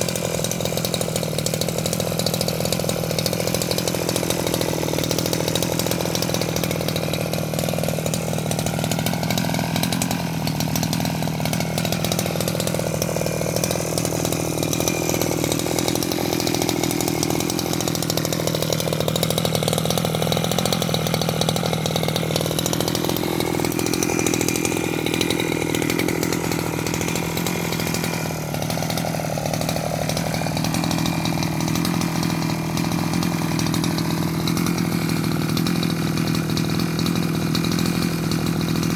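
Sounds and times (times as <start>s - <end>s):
small two-stroke engine buzzing: 0.0s - 38.9s.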